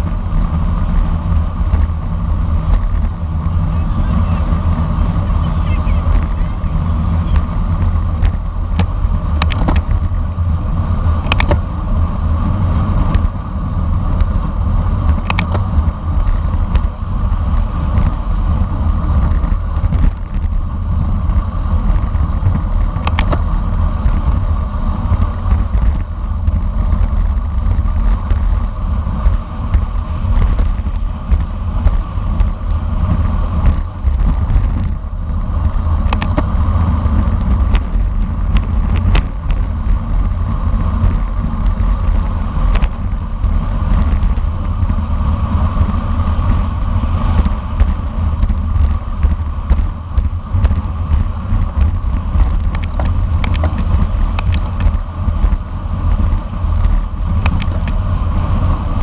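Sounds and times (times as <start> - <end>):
tyre and road noise: 0.0 - 59.0
wind rushing over microphone: 0.0 - 59.0.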